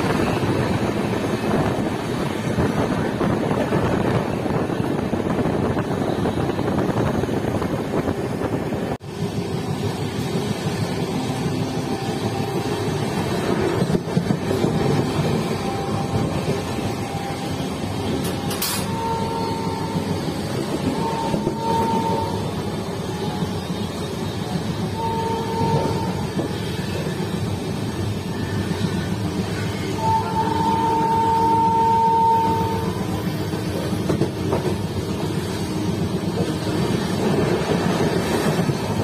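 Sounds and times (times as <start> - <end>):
train wheels on rails: 0.0 - 39.0.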